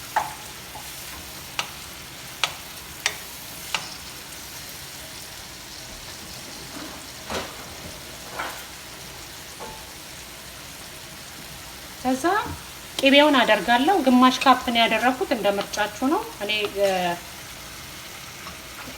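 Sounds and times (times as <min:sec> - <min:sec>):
food sizzling in oil: 0:00.0 - 0:18.9.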